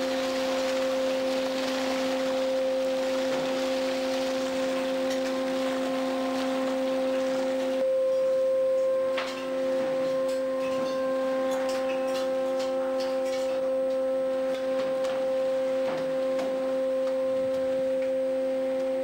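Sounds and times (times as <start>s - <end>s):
steady whine of held tones: 0.0s - 19.0s.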